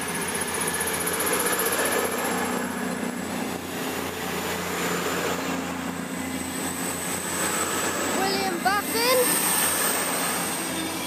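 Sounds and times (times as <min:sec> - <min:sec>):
diesel train departing: 0:00.0 - 0:11.0.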